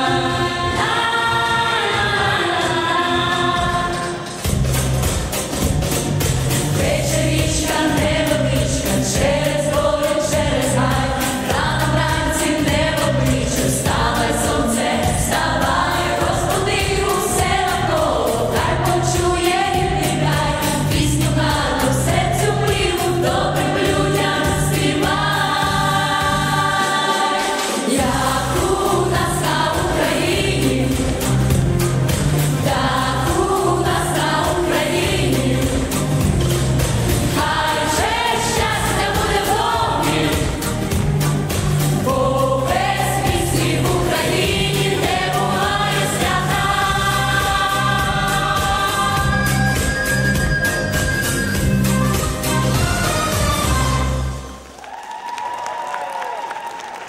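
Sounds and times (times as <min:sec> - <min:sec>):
mixed vocal group singing in harmony: 0:00.0 - 0:54.4
instrumental backing with steady beat: 0:03.5 - 0:26.8, 0:27.6 - 0:54.4.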